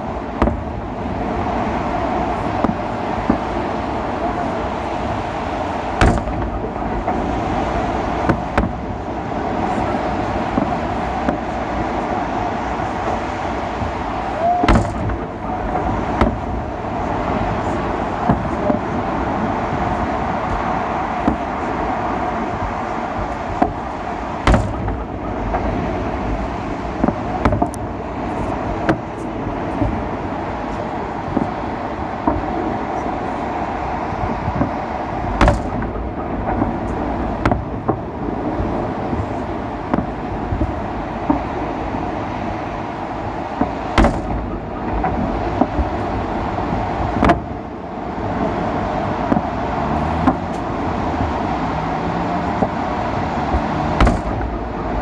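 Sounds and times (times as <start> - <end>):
distant fireworks bangs: 0.0 - 55.0
steady background rumble: 0.0 - 55.0
steady rushing noise: 0.0 - 55.0.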